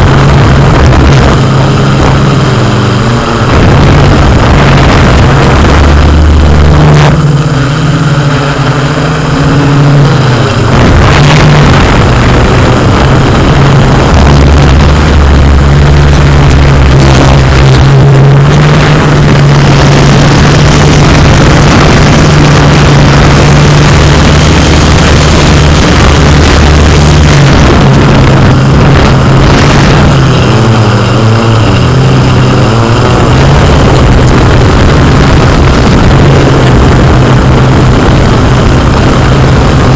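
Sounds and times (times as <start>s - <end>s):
drone propellers humming: 0.0s - 39.9s
wind rushing over microphone: 0.0s - 39.9s.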